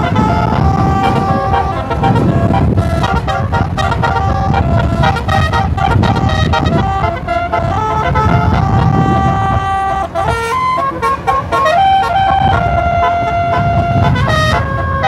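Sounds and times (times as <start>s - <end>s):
low rumble: 0.0s - 15.0s
musical air horns playing tune: 0.0s - 15.0s.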